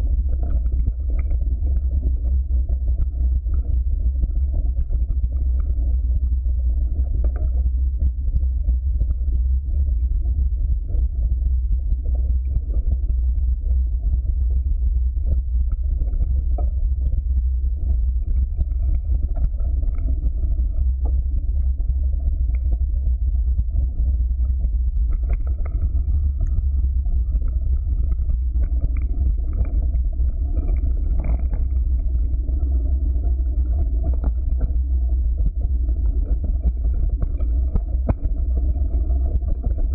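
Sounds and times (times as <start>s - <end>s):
wind and vibration rumble: 0.0s - 39.9s.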